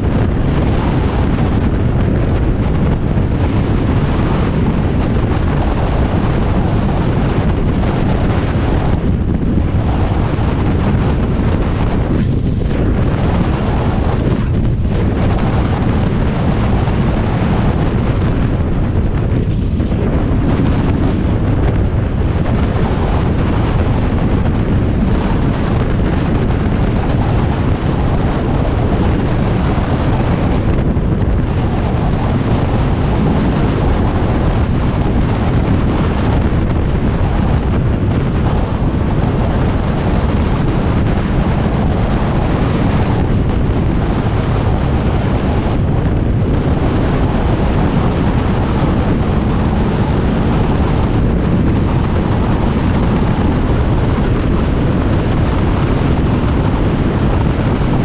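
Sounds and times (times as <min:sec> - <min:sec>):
motorcycle engine cruising: 0:00.0 - 0:58.0
wind buffeting microphone: 0:00.0 - 0:58.0.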